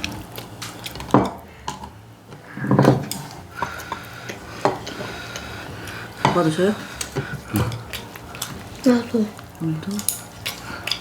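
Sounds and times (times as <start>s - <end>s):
cutlery and plates clinking: 0.0s - 11.0s.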